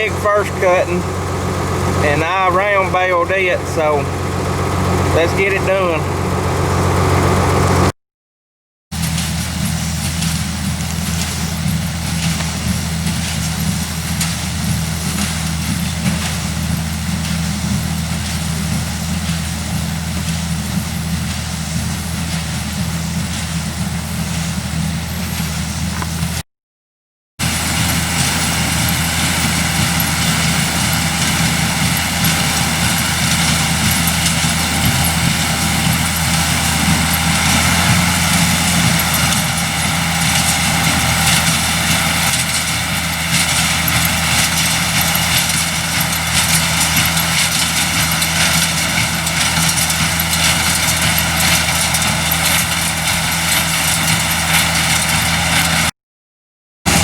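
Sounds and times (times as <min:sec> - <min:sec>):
tractor engine running: 0:00.0 - 0:07.9, 0:08.9 - 0:26.4, 0:27.4 - 0:55.9.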